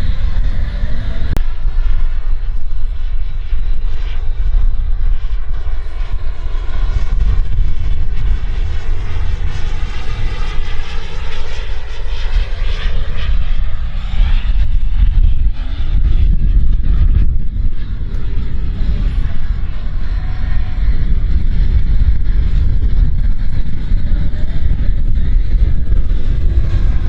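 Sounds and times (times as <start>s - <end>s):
jet turbine whine: 0.0s - 27.0s
low rumble: 0.0s - 27.0s.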